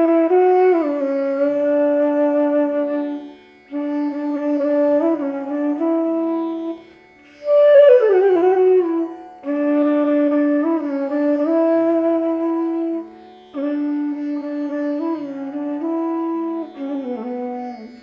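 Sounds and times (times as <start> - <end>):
bamboo flute melody: 0.0 - 18.0.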